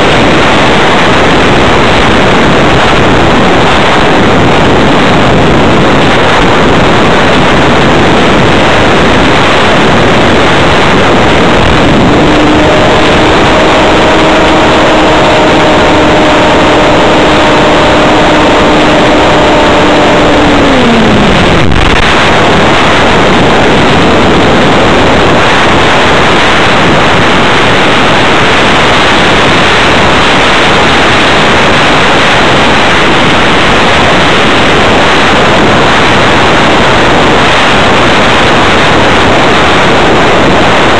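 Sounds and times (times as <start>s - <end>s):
electric motor and propeller whine: 0.0s - 40.9s
wind rushing over microphone: 0.0s - 40.9s.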